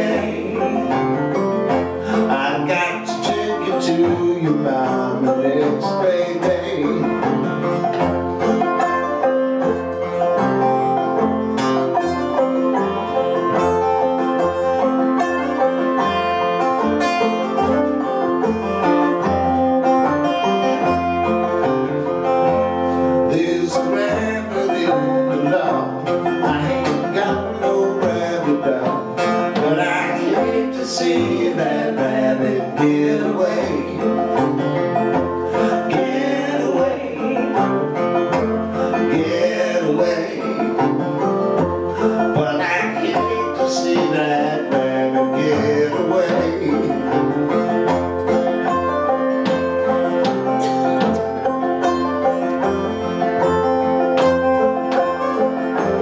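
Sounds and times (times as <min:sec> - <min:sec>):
banjo and acoustic guitar: 0:00.0 - 0:56.0.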